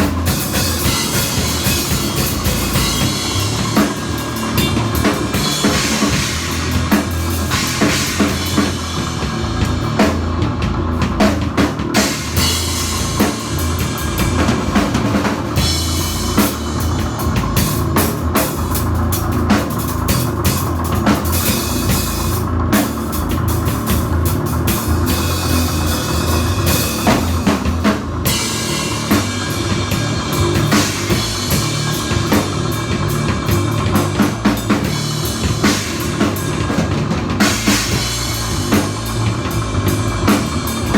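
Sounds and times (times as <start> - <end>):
drum kit hitting hard: 0.0 - 40.9
low bass line: 0.0 - 40.9
rock band playing: 0.0 - 40.9.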